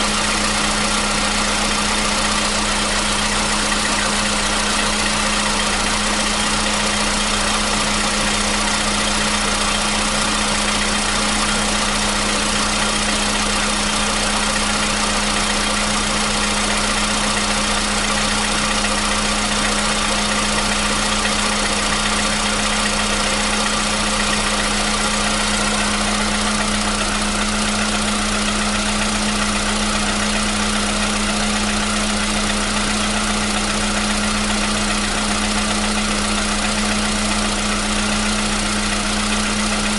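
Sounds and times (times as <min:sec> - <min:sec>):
petrol engine idling: 0:00.0 - 0:39.9.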